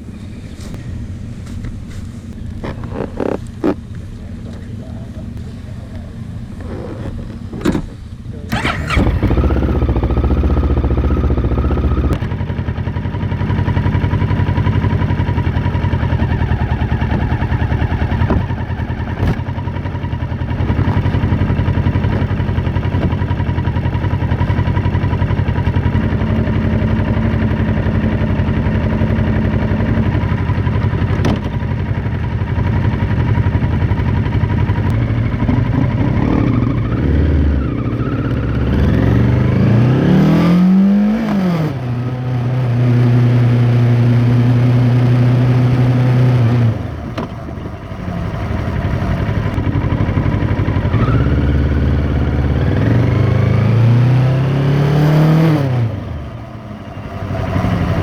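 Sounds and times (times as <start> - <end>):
motorcycle engine idling: 0.0 - 39.7, 41.1 - 53.6, 55.8 - 58.0.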